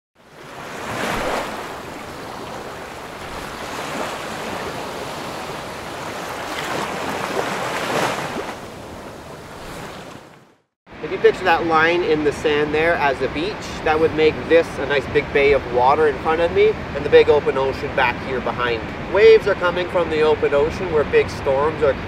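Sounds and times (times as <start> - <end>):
ocean waves breaking: 0.2 - 22.0.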